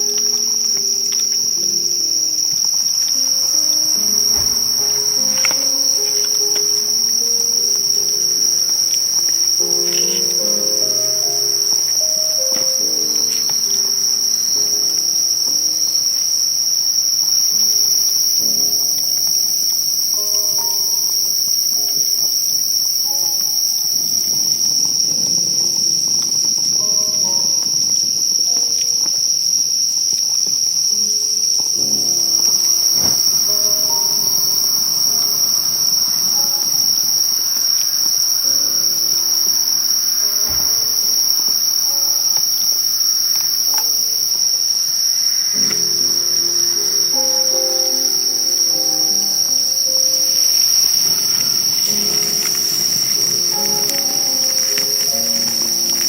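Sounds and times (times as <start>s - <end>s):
crickets and insects chirring: 0.0s - 56.0s.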